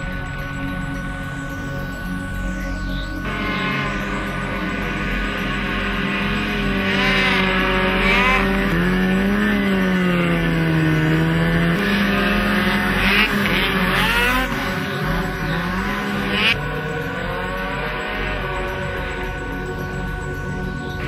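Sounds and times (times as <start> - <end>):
snowmobiles passing by: 3.2 - 21.0.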